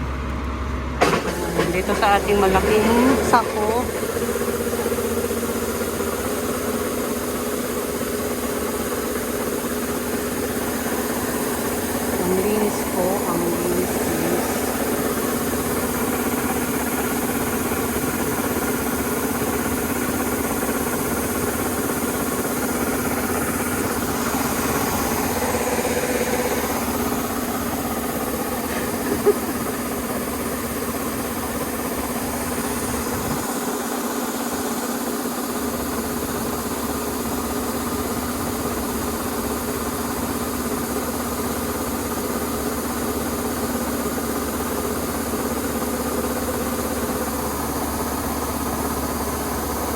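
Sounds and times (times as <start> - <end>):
diesel engine running steadily: 0.0 - 49.9.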